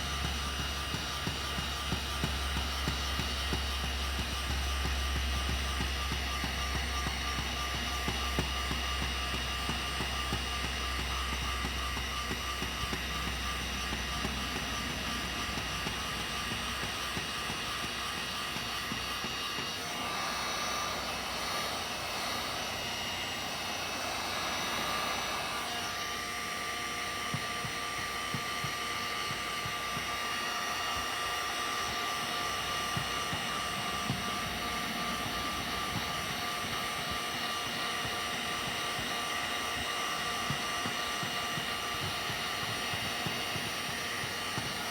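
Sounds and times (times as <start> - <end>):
heat gun blowing air: 0.0 - 44.9.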